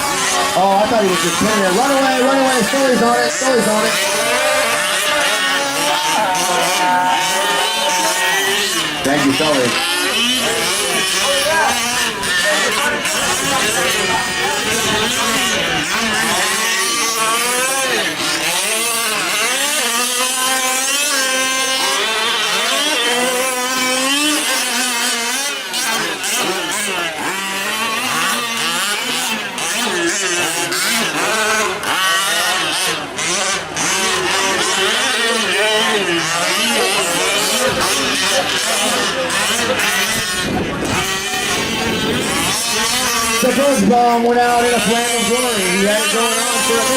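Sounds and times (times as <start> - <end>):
rc truck engines revving: 0.0 - 46.9.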